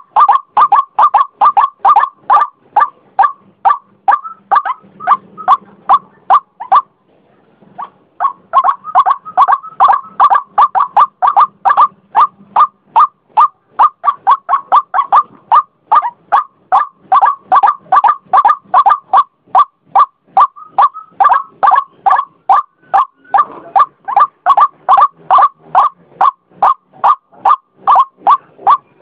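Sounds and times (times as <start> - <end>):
waterhen calling harsh notes: 0.0 - 7.0, 7.8 - 29.0.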